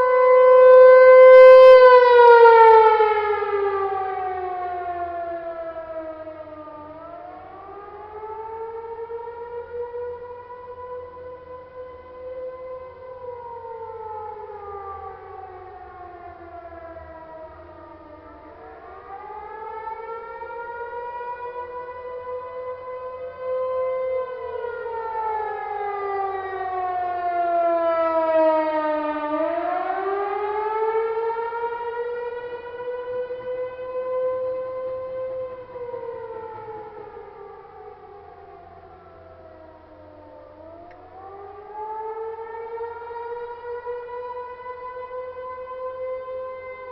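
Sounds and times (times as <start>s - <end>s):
outdoor warning siren wailing: 0.0s - 46.9s.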